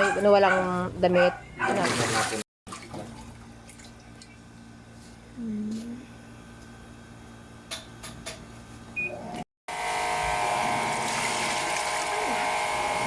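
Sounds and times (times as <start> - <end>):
washing machine whining hum: 0.0 - 13.0.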